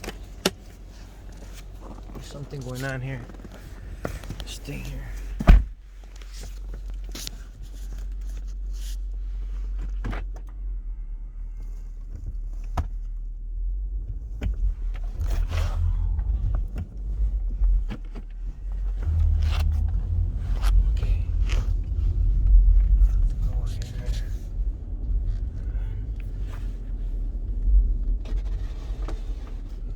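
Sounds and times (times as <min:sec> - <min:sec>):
car engine rumble inside cabin: 0:00.0 - 0:29.9.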